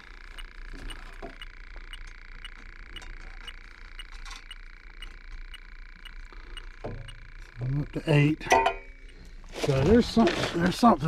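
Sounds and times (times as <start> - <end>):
leak detector ticking: 0.0 - 11.0
pump humming: 0.0 - 11.0.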